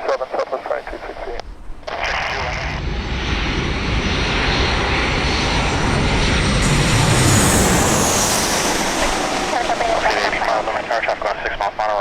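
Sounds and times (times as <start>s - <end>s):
jet engine roar: 0.2s - 12.0s
high jet whine: 0.9s - 12.0s.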